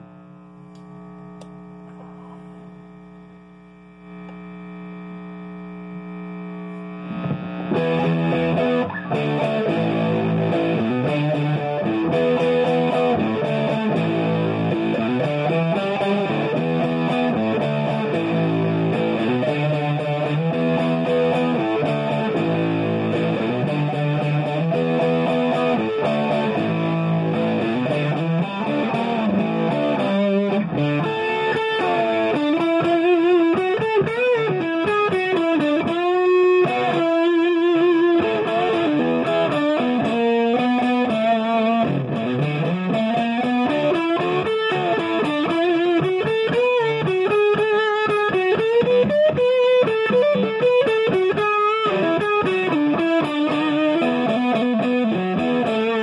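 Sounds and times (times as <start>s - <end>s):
fuzz electric guitar: 0.0s - 56.0s.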